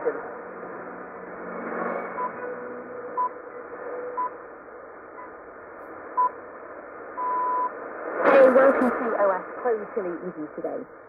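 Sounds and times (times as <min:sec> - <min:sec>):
shortwave static hiss: 0:00.0 - 0:11.0.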